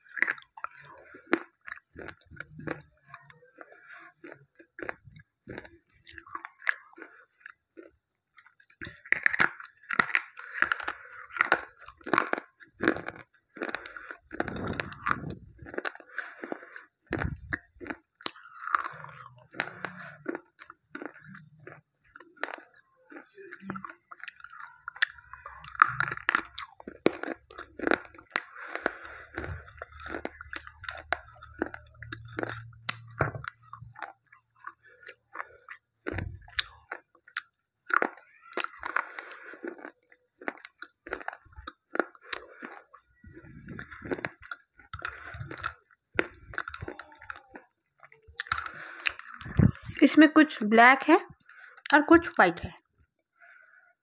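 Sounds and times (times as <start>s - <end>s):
slate pencils crunched and chewed: 0.0s - 50.0s.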